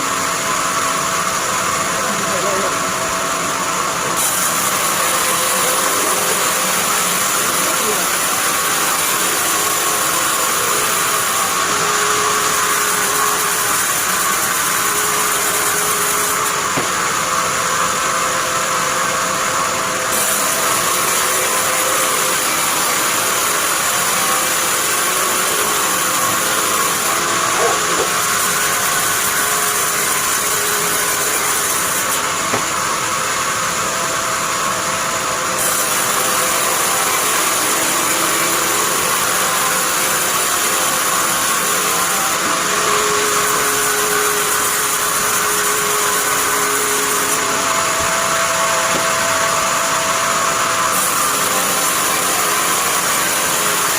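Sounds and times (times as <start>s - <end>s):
band sawmill running: 0.0s - 53.9s.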